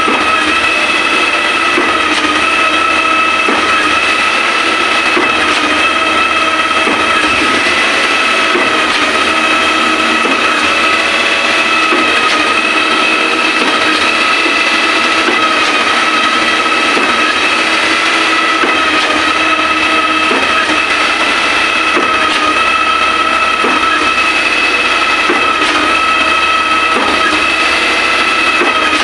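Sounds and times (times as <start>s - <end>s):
concrete pump droning: 0.0s - 29.0s.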